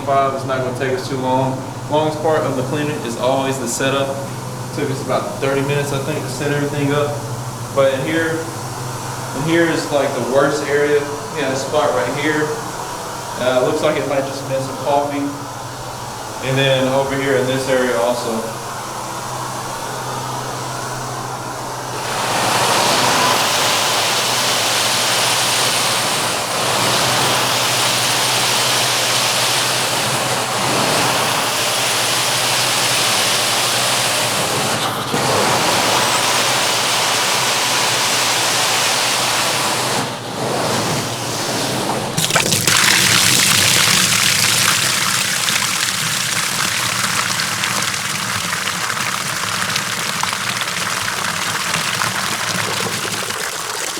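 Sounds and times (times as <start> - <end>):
carpet extraction wand suction and spray: 0.1 - 53.9.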